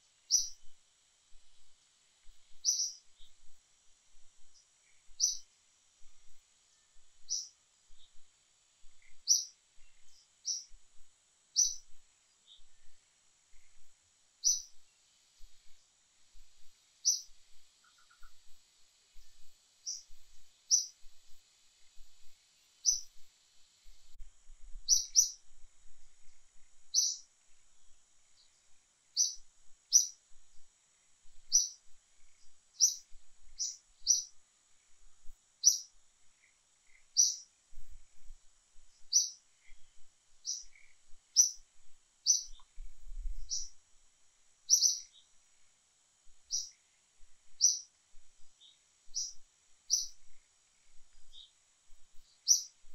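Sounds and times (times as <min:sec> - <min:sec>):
faint high hiss: 0:00.0 - 0:52.9
bird chirping: 0:00.3 - 0:00.8, 0:01.4 - 0:24.2, 0:24.8 - 0:25.5, 0:26.2 - 0:30.2, 0:31.4 - 0:35.0, 0:35.6 - 0:38.3, 0:38.9 - 0:43.8, 0:44.7 - 0:45.4, 0:46.4 - 0:46.9, 0:47.5 - 0:52.9.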